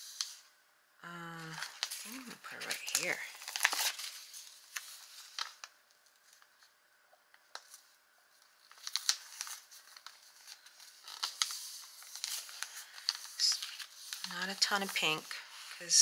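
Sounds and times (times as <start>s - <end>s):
paper rustling: 1.4s - 6.8s, 7.4s - 16.0s.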